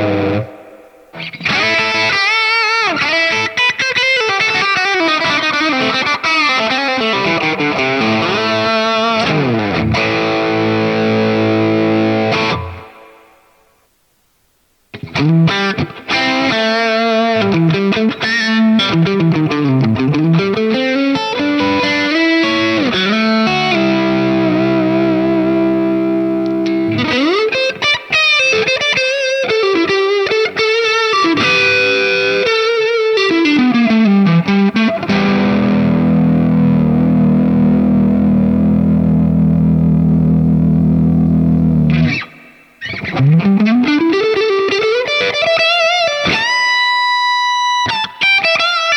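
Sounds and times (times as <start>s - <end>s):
distorted electric guitar: 0.0s - 13.6s, 14.9s - 48.9s.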